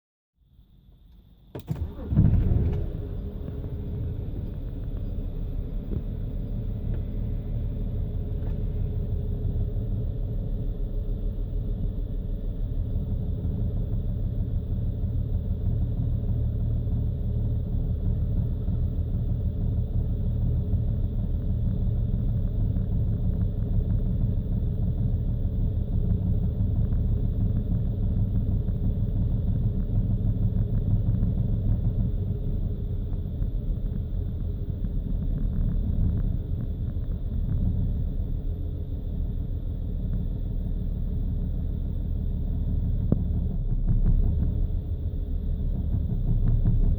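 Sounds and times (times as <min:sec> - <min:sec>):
car engine starting and idling roughly: 0:01.2 - 0:46.9.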